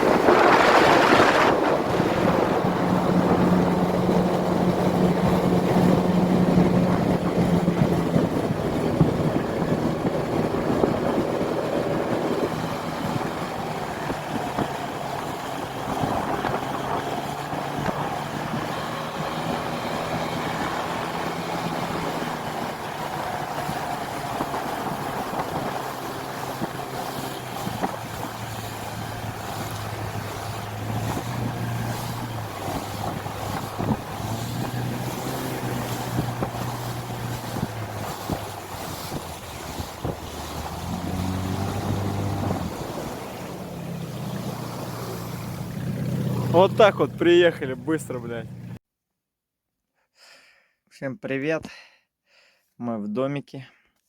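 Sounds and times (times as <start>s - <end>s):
wind rushing: 0.0s - 47.3s
engine humming: 0.0s - 48.8s.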